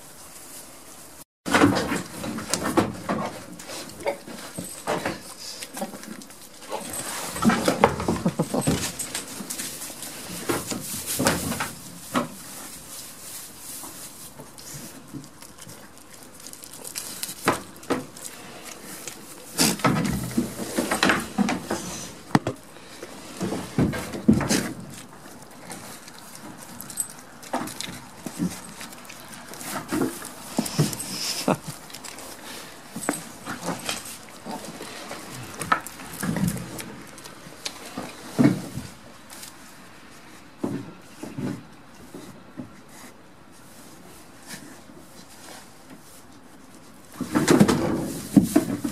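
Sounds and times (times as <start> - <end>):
rustling: 0.0 - 48.9
goats eating: 1.8 - 48.9.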